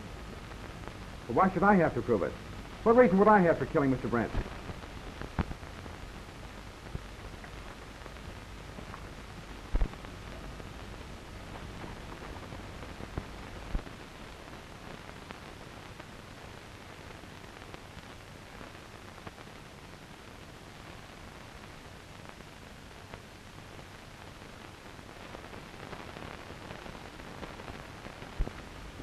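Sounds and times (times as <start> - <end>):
crackles and pops: 0.0 - 29.0
film soundtrack hiss: 0.0 - 29.0.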